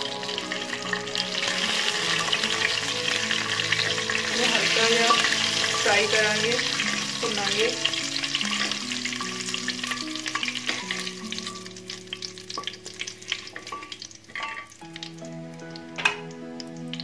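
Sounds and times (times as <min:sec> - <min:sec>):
spices sizzling in hot ghee: 0:00.0 - 0:17.0.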